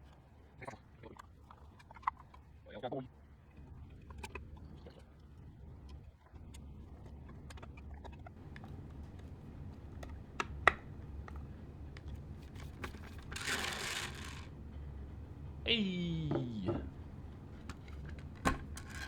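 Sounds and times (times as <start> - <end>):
low steady hum: 2.5 - 19.0.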